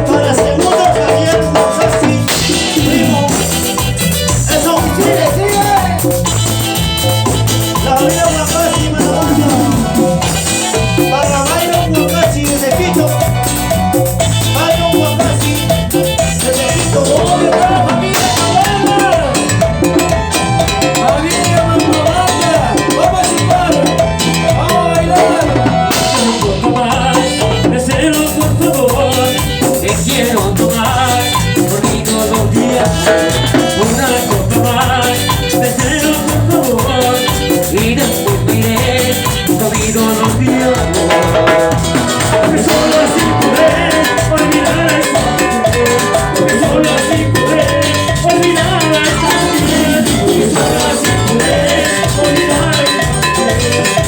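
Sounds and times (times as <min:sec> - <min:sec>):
latin dance band playing: 0:00.0 - 0:54.0
steady drum beat: 0:00.0 - 0:54.0.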